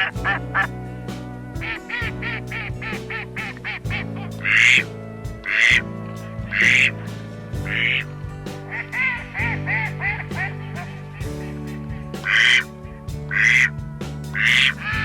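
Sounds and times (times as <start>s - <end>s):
ducks quacking: 0.0s - 0.8s, 1.5s - 15.0s
background music: 0.0s - 15.0s.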